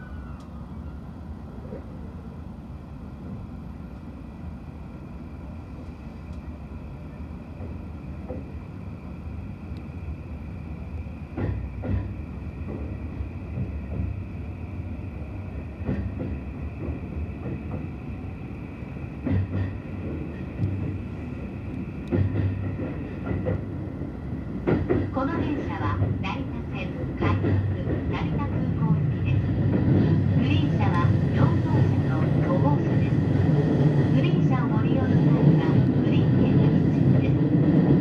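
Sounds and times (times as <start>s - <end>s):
train rolling rumble: 0.0s - 38.0s.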